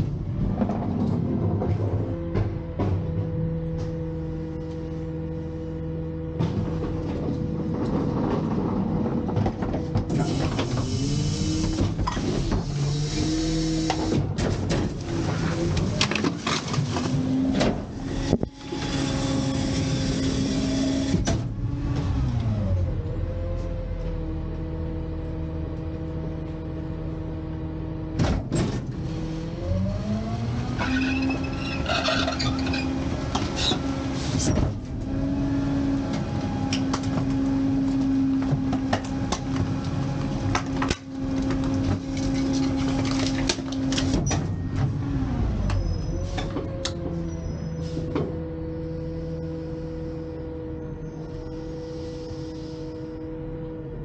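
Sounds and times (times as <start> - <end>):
diesel engine idling and revving: 0.0 - 54.0.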